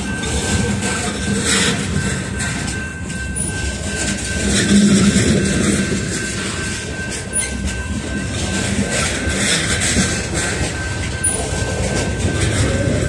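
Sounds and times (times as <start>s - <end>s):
freight train wheels rumbling: 0.0s - 13.0s
wheels clacking over rail joints: 0.0s - 13.0s.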